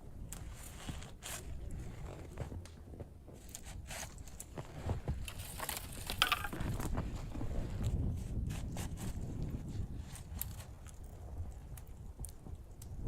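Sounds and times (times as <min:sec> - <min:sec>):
crunching and scraping: 0:00.3 - 0:13.0.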